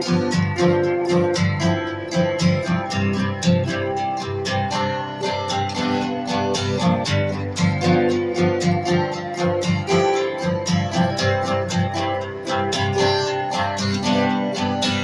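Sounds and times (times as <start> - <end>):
strummed acoustic guitar music: 0.0 - 15.0.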